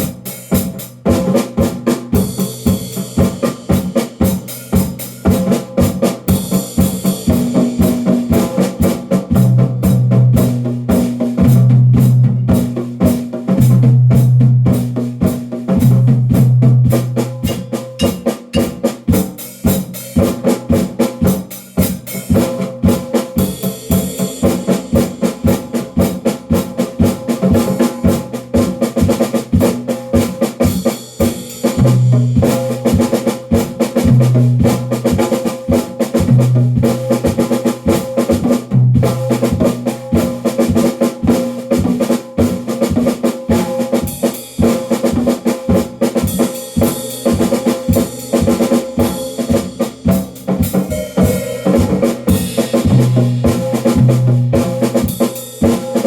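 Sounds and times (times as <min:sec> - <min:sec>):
fast drumming: 0:00.0 - 0:56.0.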